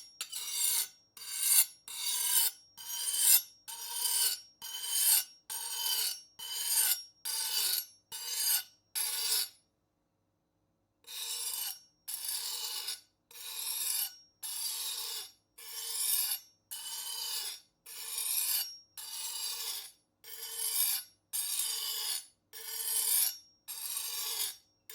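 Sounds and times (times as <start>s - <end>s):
knife rasping on sharpener: 0.0s - 9.5s, 11.1s - 24.6s.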